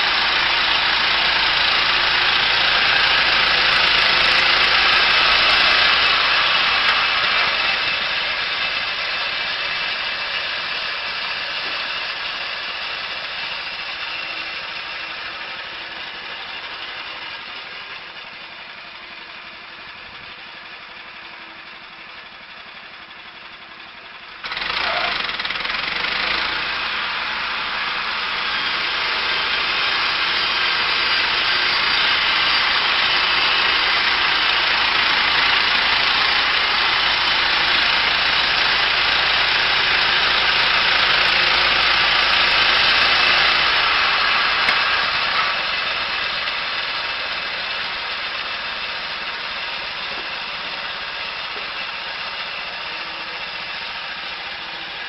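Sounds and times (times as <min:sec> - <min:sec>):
wood-processing machinery running: 0:00.0 - 0:55.0.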